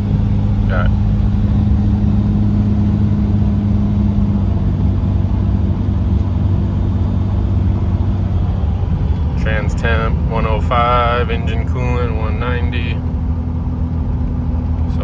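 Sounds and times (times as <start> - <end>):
diesel truck engine drone: 0.0 - 15.0
road noise: 0.0 - 15.0.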